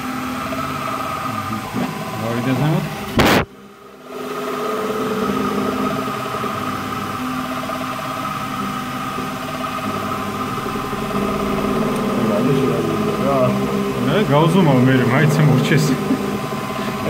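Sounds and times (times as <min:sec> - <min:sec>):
milling machine cutting metal: 0:00.0 - 0:17.0.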